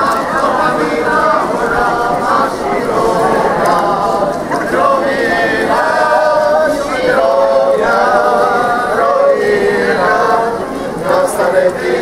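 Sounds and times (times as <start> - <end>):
group singing: 0.0 - 12.0.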